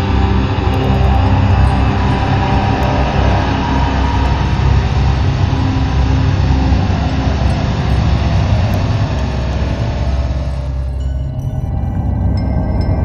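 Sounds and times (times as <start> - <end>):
dark electronic drone: 0.0 - 13.0.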